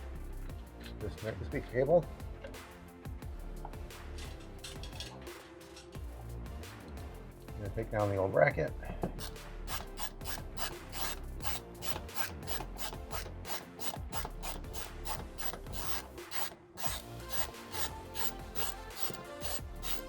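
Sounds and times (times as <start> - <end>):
background music with chords: 0.0 - 20.0.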